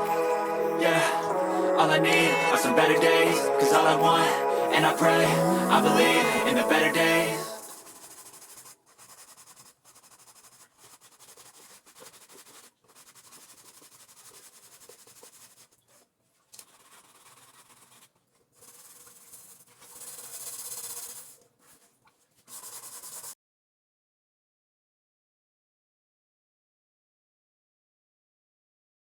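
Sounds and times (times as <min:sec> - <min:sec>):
rubbing scrubbing noise: 0:00.0 - 0:23.4.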